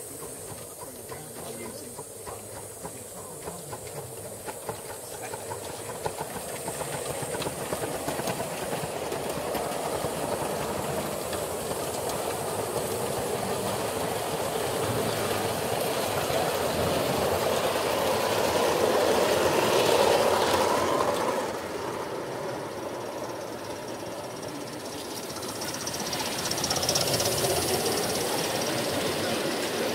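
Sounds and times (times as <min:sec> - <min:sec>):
model train wheels rattling: 0:00.0 - 0:29.9
steam hissing: 0:00.0 - 0:29.9.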